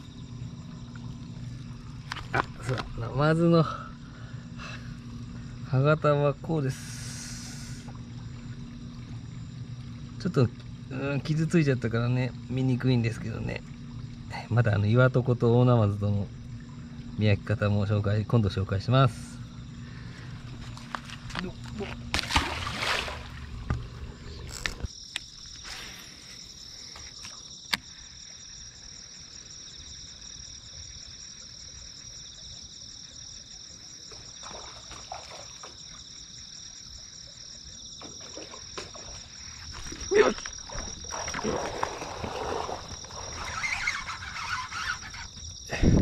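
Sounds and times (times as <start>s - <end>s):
crickets trilling: 0.0s - 46.0s.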